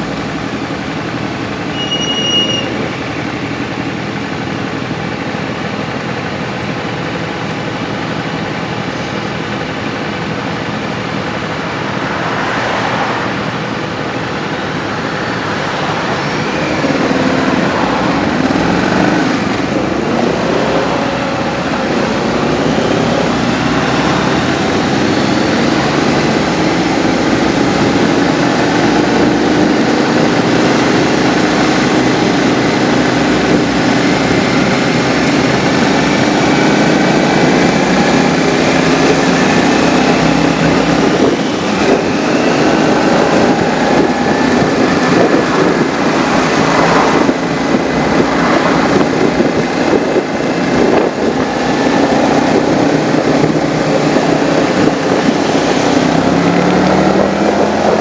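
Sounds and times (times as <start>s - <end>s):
motorcycle engine: 0.0s - 58.0s
rushing wind: 2.4s - 58.0s.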